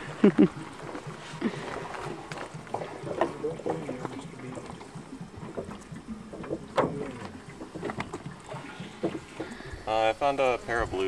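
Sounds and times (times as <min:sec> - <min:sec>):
water sloshing into jugs: 0:00.0 - 0:10.5.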